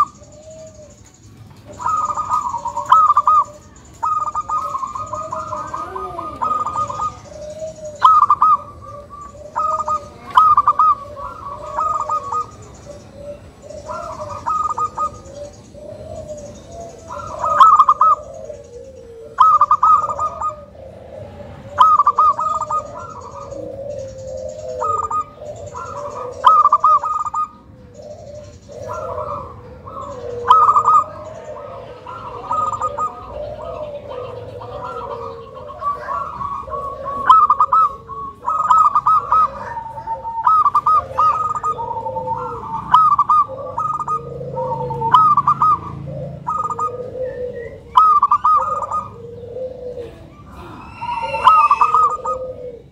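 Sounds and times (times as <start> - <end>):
dove staccato coo notes: 0.0 - 52.9
low continuous dove cooing: 0.0 - 52.9.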